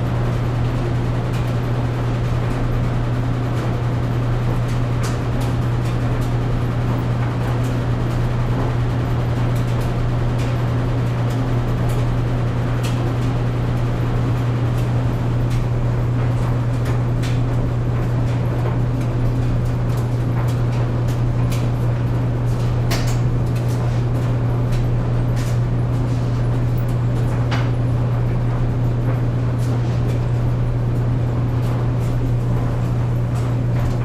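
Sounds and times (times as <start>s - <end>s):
clothes dryer running: 0.0s - 34.0s.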